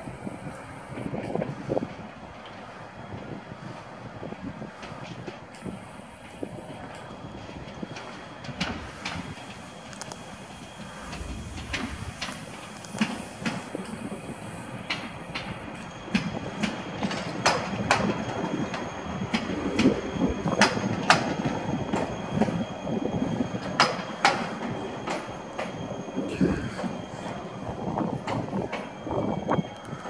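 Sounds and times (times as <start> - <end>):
train wheels clicking over rail joints: 0.4 - 30.0.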